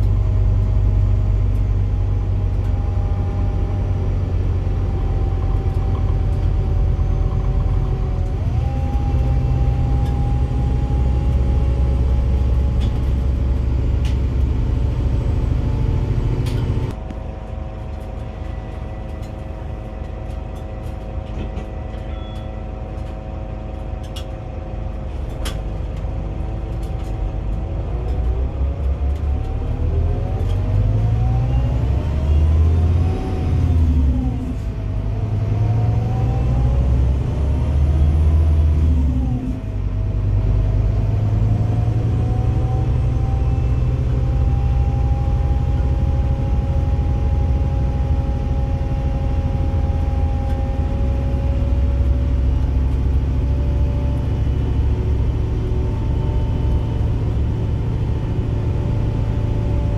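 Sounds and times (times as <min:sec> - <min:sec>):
bus diesel engine accelerating: 0:00.0 - 0:59.9.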